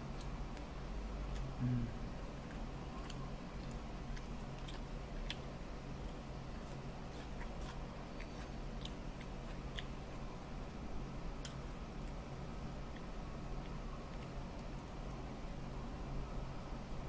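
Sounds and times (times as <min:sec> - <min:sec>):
soft chewing: 0:00.0 - 0:15.6
steady low hum: 0:00.0 - 0:17.0.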